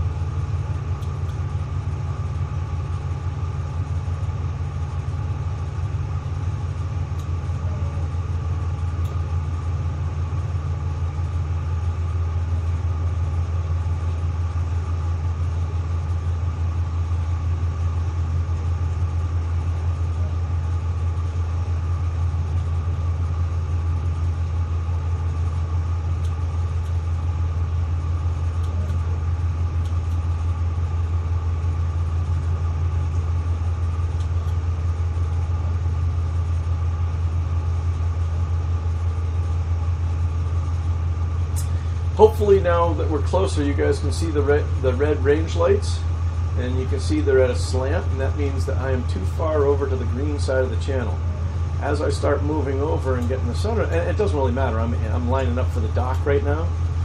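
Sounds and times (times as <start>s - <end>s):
boat diesel engines droning: 0.0s - 57.0s.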